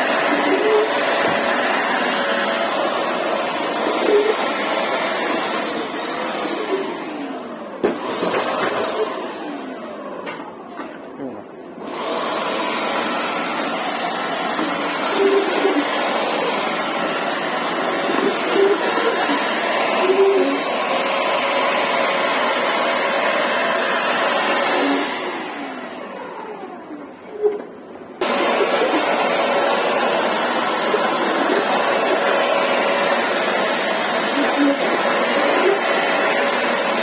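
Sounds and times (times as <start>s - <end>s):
vacuum motor whining down: 0.0s - 10.6s, 11.8s - 27.4s, 28.2s - 37.0s
vacuum cleaner motor running: 0.0s - 10.7s, 11.7s - 27.5s, 28.2s - 37.0s.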